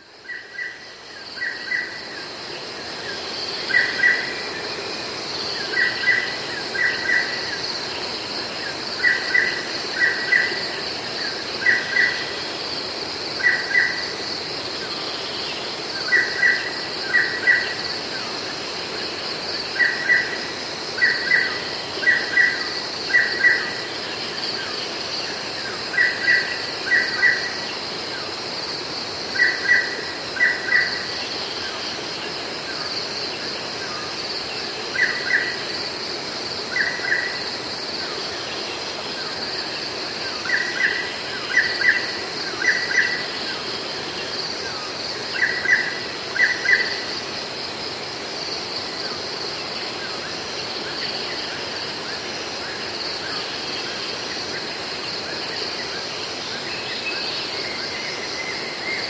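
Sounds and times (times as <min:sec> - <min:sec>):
cicadas droning: 0:00.0 - 0:59.0.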